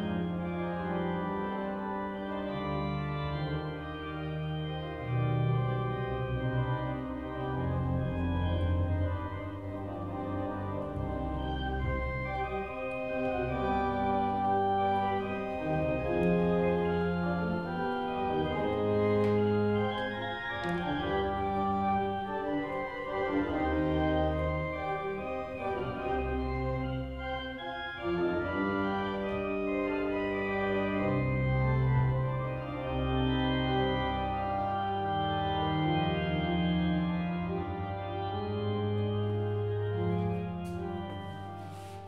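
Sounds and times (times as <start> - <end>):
organ chords: 0.0 - 42.0.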